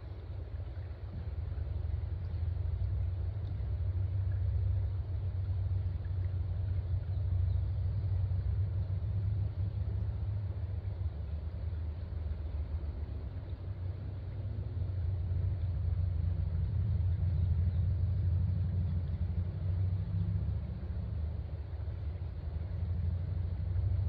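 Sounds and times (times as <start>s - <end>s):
steady low rumble: 0.0s - 24.0s
trickling creek water: 0.0s - 24.0s.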